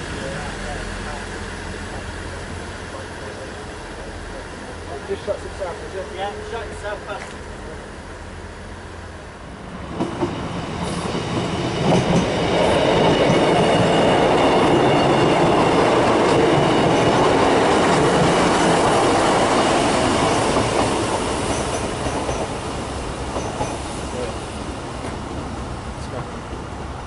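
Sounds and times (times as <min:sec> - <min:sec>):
diesel train passing: 0:00.0 - 0:27.0.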